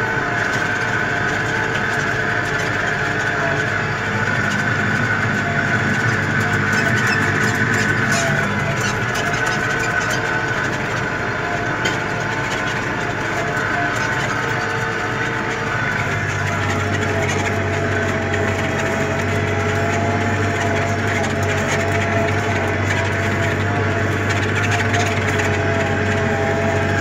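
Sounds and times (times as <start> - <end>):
tractor engine under load: 0.0 - 27.0.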